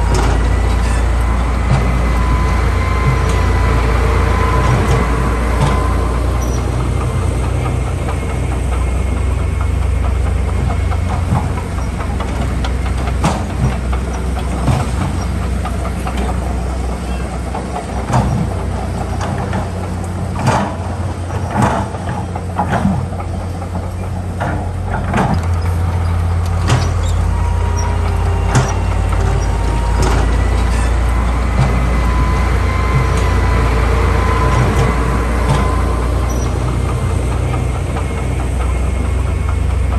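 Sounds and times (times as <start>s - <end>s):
heavy diesel machinery running: 0.0s - 39.9s
metallic clanks and knocks: 0.0s - 39.9s.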